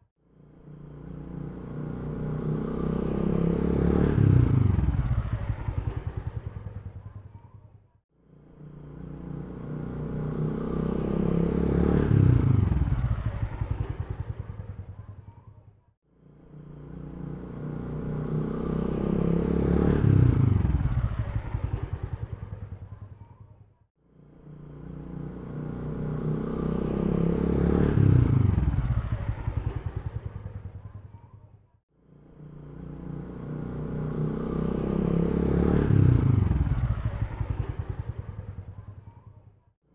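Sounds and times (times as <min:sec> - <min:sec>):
motorcycle engine running: 0:00.4 - 0:39.7.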